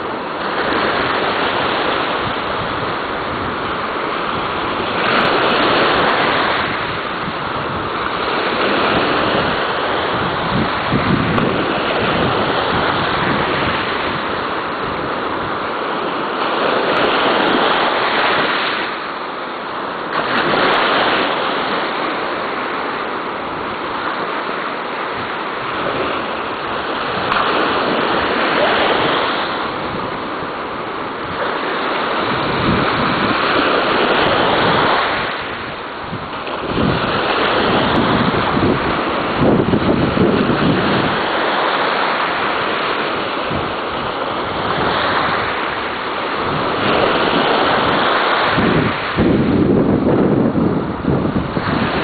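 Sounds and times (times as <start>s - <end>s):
ocean waves washing: 0.0s - 52.0s
wind on microphone: 0.0s - 52.0s.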